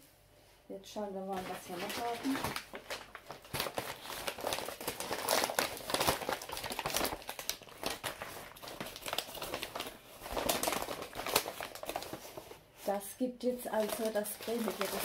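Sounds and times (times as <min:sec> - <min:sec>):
paper bag crinkling: 0:01.3 - 0:15.0.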